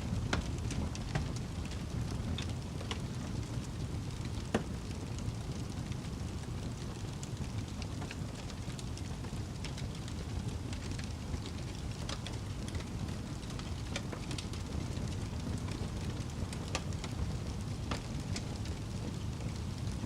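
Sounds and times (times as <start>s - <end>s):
fire low rumble: 0.0s - 20.0s
fire pops and crackles: 0.0s - 20.0s.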